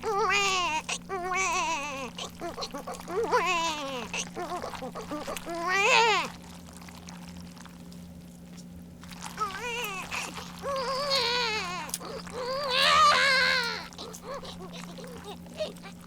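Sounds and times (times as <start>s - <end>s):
high-pitched voice wailing: 0.0s - 6.3s, 9.4s - 16.0s
steady low hum: 0.0s - 16.0s.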